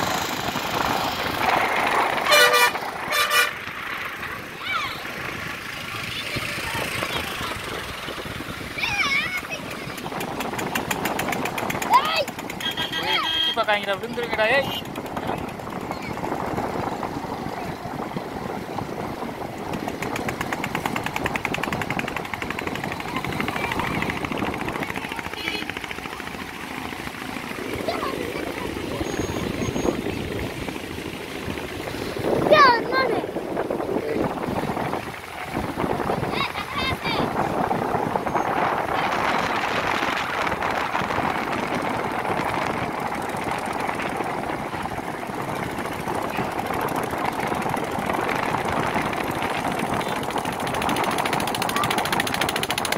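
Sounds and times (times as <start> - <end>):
boat engine chugging: 0.0 - 52.9
steady background rush: 0.0 - 52.9.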